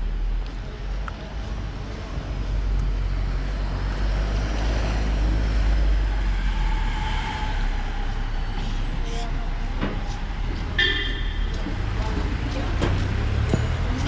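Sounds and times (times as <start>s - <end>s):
passing cars and buses: 0.0s - 14.0s.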